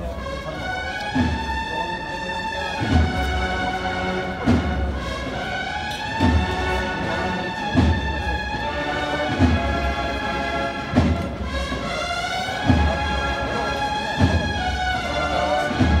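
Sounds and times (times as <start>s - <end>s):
sustained brass chords: 0.0s - 16.0s.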